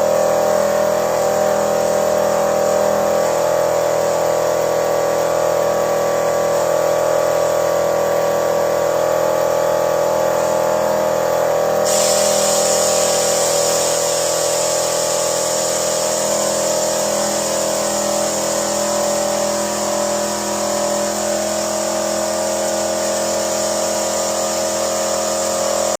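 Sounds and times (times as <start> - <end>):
car engine running with whine: 0.0 - 26.0.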